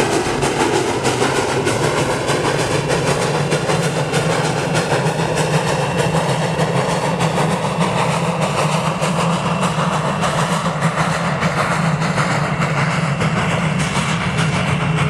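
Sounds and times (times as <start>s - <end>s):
rail clicks: 0.0s - 15.0s
train rumbling on rails: 0.0s - 15.0s.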